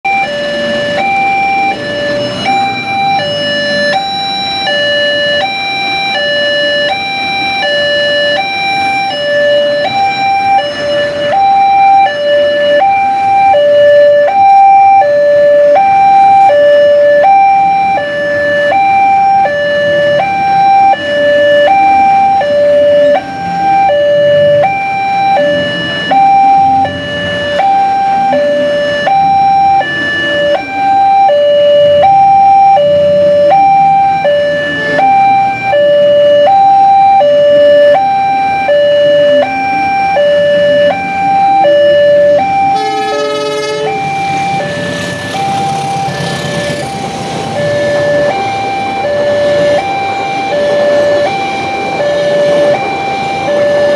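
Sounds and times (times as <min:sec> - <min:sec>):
road traffic rumble: 0:00.0 - 0:53.9
two-tone crossing alarm: 0:00.0 - 0:53.9.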